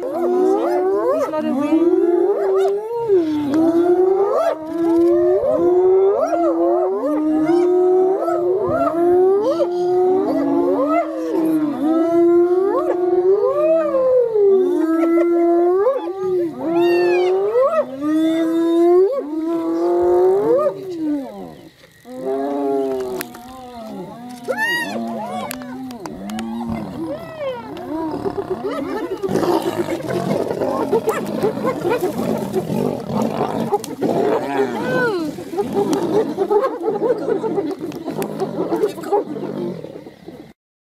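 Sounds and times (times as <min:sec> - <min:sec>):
hyenas howling: 0:00.0 - 0:40.2.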